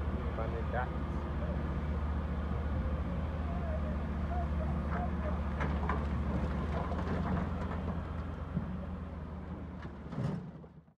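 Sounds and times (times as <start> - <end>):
diesel engine hum: 0.0 - 10.1.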